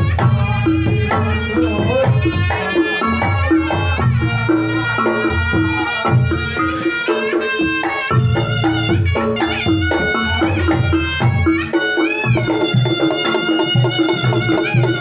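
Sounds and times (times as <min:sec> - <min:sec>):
hand drumming: 0:00.0 - 0:15.0
reed pipe melody: 0:00.0 - 0:15.0.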